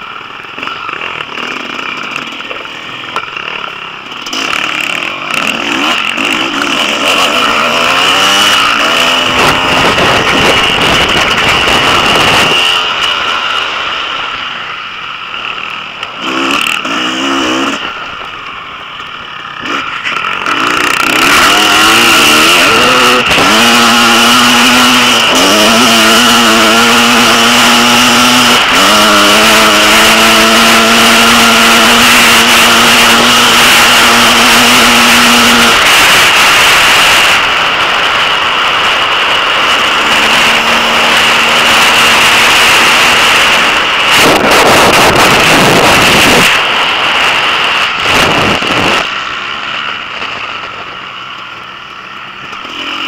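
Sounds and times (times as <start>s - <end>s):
loud rushing noise: 0.0s - 53.0s
motorcycle engine revving: 0.0s - 53.0s.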